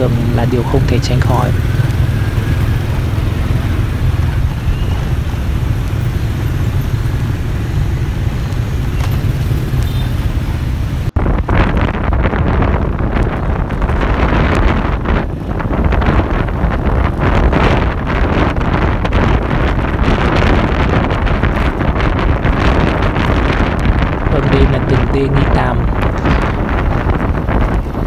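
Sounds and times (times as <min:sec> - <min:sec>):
motorbike traffic rumble: 0:00.0 - 0:28.0
wind buffeting microphone: 0:00.0 - 0:28.0.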